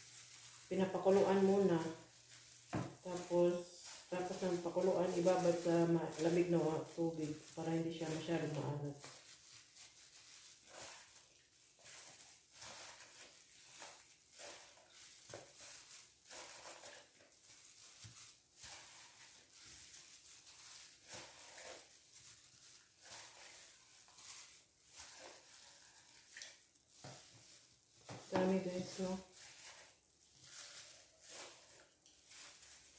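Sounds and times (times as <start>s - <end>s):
plastic gloves and bag crinkling: 0.0s - 32.9s.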